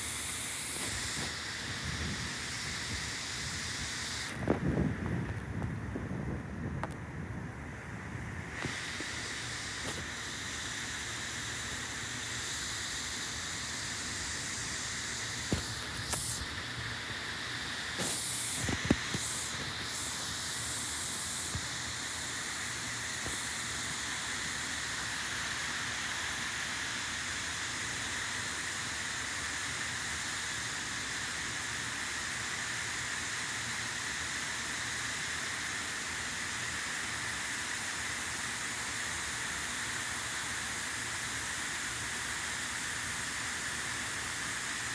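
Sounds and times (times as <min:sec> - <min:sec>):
train wheels hissing on rail: 0:00.0 - 0:05.4, 0:08.4 - 0:44.9.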